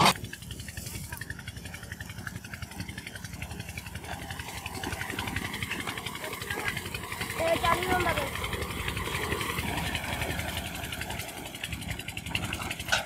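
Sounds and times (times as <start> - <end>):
tractor diesel engines idling: 0.0 - 13.0.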